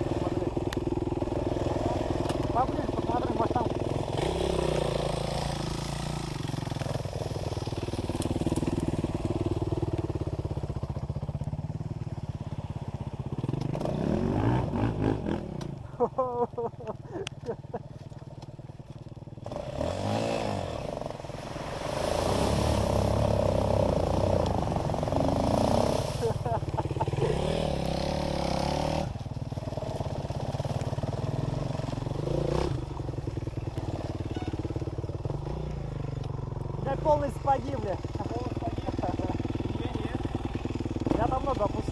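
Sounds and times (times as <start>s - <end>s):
dirt bike engine revving: 0.0s - 11.0s, 12.6s - 16.0s, 19.4s - 41.9s.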